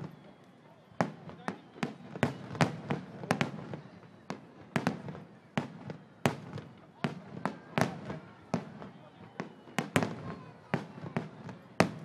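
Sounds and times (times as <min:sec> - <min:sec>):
fireworks bursting with echo: 0:00.0 - 0:12.0.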